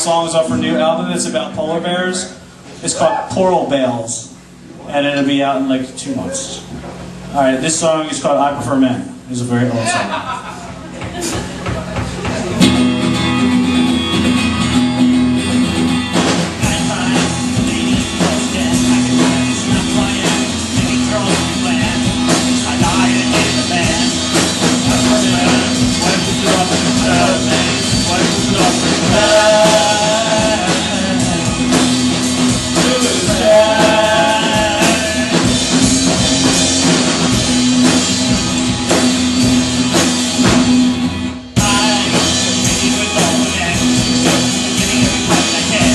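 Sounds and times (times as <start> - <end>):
live rock band playing: 0.0 - 2.9, 10.2 - 45.9.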